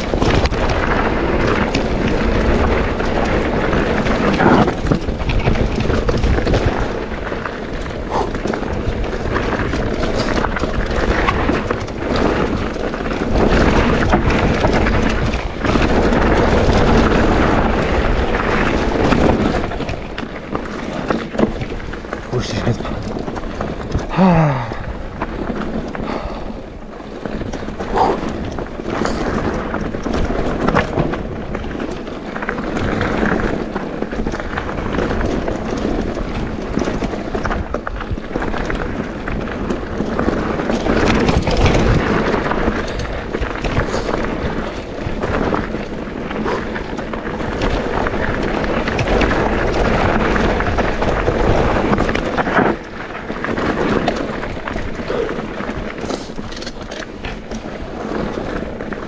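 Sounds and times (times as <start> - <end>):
bike clattering over bumps: 0.0 - 59.0
bike tyres rolling on dirt: 0.0 - 59.0.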